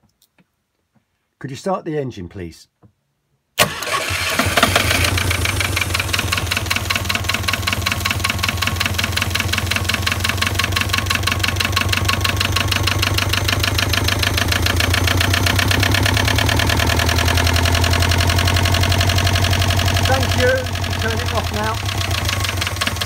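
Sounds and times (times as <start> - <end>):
diesel engine idling: 3.7 - 23.0.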